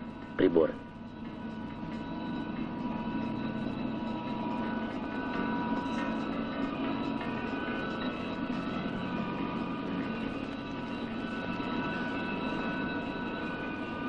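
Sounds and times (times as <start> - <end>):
heavy machinery drone: 0.0 - 14.0.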